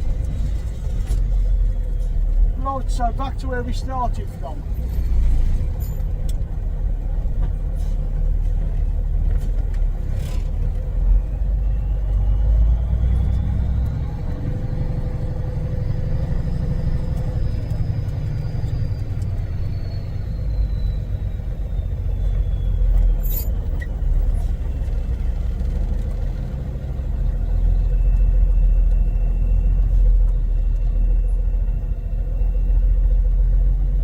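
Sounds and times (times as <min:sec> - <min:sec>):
diesel truck engine rumbling: 0:00.0 - 0:34.0.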